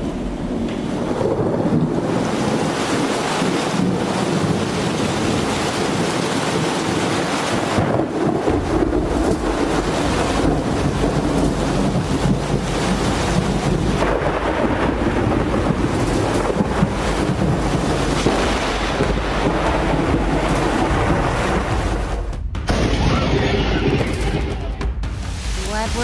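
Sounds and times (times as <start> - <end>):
wind buffeting microphone: 0.0 - 24.9
rain: 0.0 - 26.0
rumbling thunder: 0.0 - 26.0.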